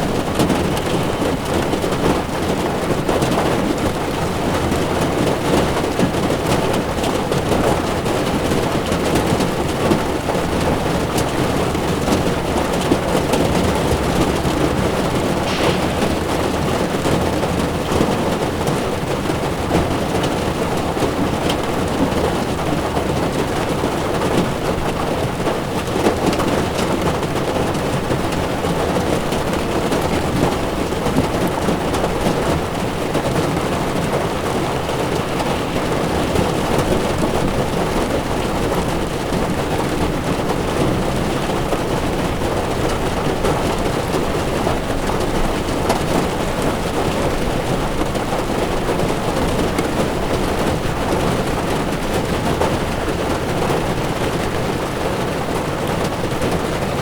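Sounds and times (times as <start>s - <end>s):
heavy rain on car windshield: 0.0s - 57.0s
tyre noise on wet road: 0.0s - 57.0s.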